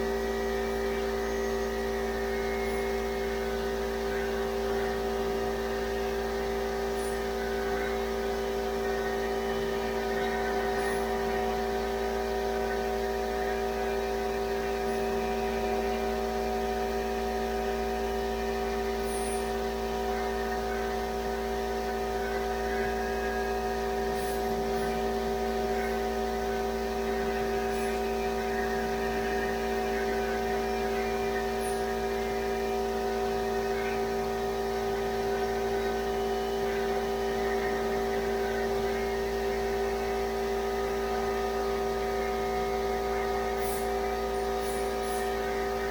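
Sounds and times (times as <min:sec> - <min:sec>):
steady machine hum: 0:00.0 - 0:45.9.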